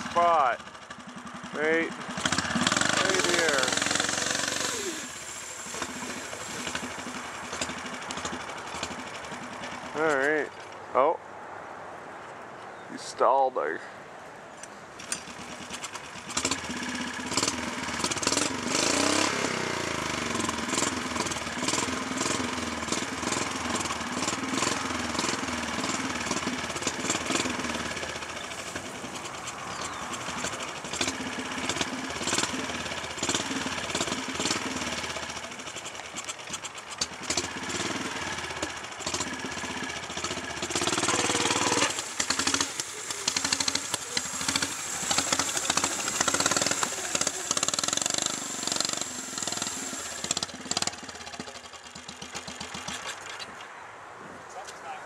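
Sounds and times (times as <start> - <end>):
lawn tractor engine revving unevenly: 0.0 - 10.8, 15.0 - 53.6.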